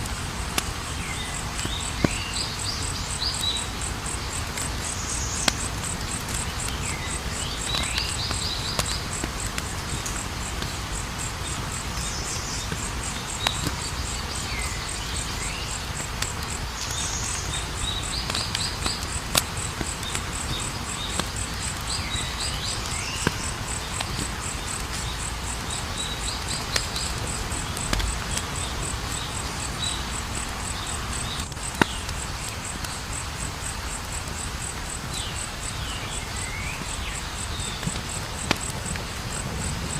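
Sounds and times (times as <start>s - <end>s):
campfire crackling and popping: 0.0s - 39.9s
insects chirping: 0.0s - 39.9s.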